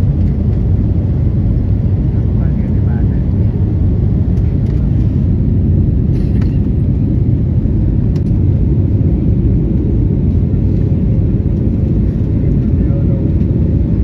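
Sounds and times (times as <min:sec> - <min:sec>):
jet engines and airflow rumbling: 0:00.0 - 0:14.0.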